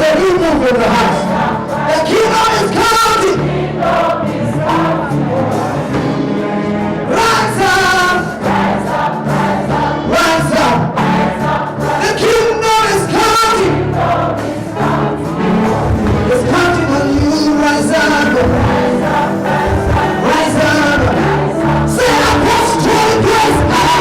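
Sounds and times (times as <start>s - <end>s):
band accompaniment: 0.0s - 24.0s
congregation singing gospel song: 0.0s - 24.0s.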